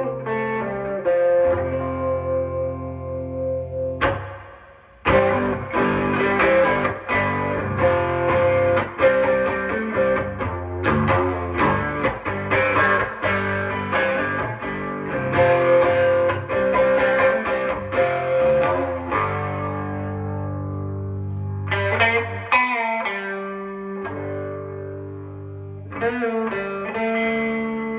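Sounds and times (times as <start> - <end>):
electric guitar notes and chords: 0.0 - 27.9.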